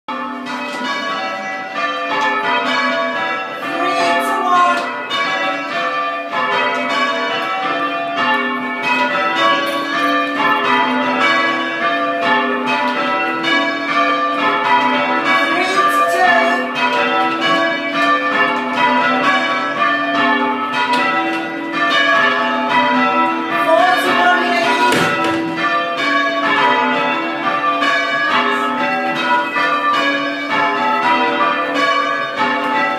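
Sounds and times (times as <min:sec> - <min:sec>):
church bells ringing: 0:00.1 - 0:32.9.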